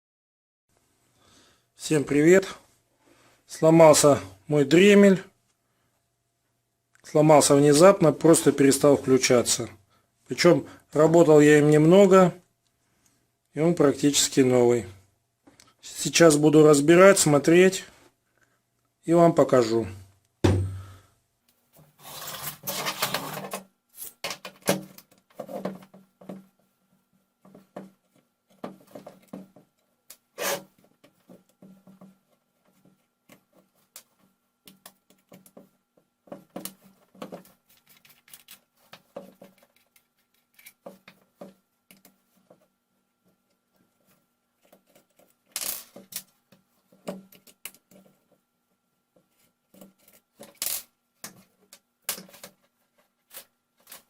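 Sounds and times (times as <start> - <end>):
faint steady hum: 0.7 - 54.0.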